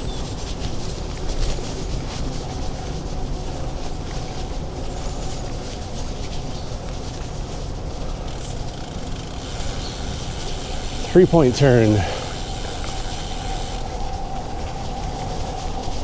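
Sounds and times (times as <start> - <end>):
bicycle tyre noise on path: 0.0 - 16.0
wind buffeting microphone: 0.0 - 16.0.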